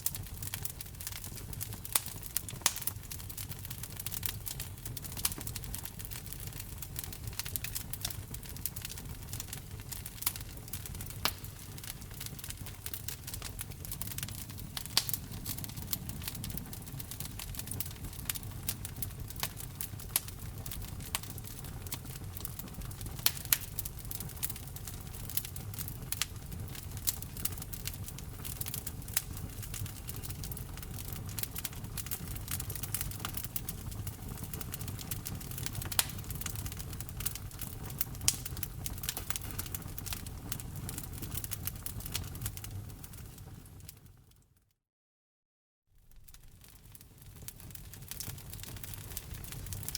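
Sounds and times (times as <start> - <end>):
burning logs popping and snapping: 0.0 - 44.0, 46.0 - 49.9
low rumble of flame: 0.0 - 44.4, 46.0 - 49.9.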